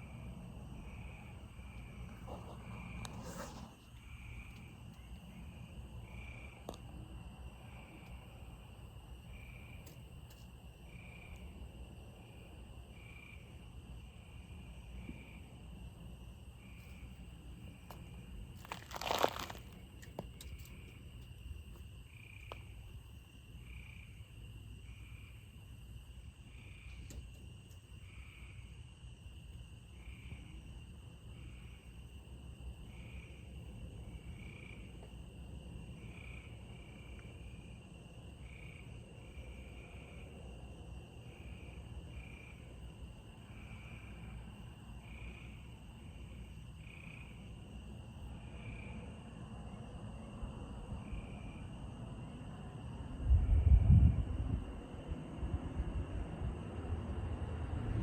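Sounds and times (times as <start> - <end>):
crickets trilling: 0.0 - 58.0
low background rumble: 0.0 - 58.0.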